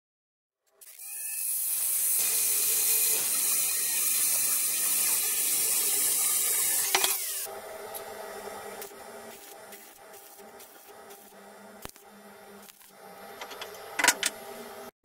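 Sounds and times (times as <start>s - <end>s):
angle grinder cutting steel: 0.8s - 14.4s.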